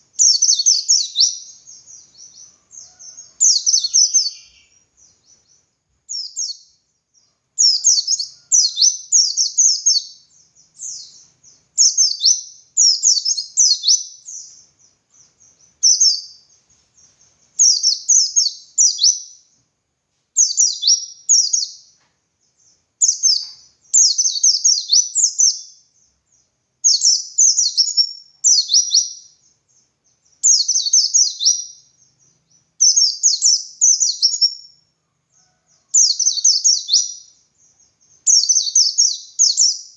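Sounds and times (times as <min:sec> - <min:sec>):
bird singing rapid high phrases: 0:00.0 - 0:19.7, 0:20.4 - 0:34.8, 0:35.9 - 0:39.9.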